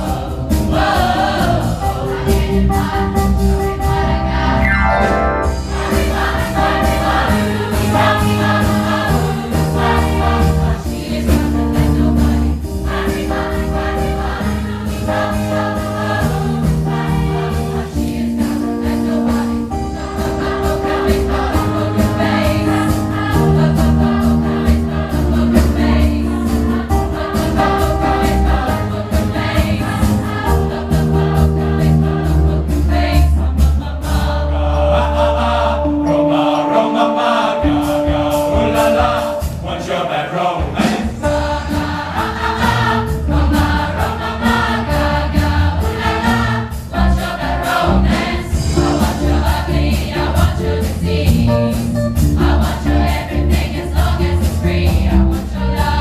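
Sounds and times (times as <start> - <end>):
choir singing sustained notes: 3.9 - 51.5.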